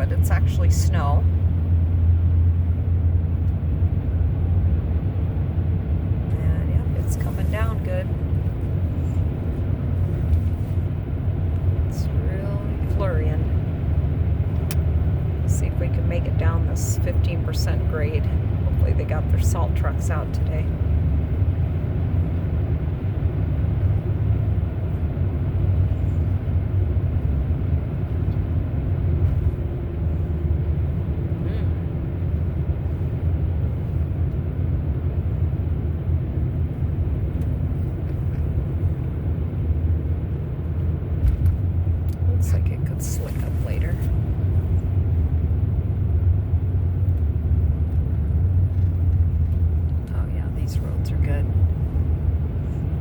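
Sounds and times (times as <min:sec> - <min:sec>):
car engine rumbling: 0:00.0 - 0:53.0.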